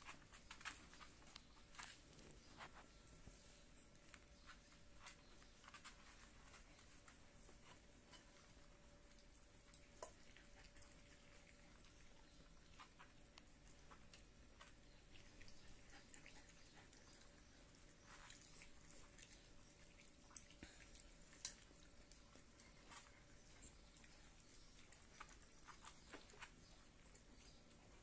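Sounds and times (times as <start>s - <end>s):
puppies chewing: 0.0s - 28.0s.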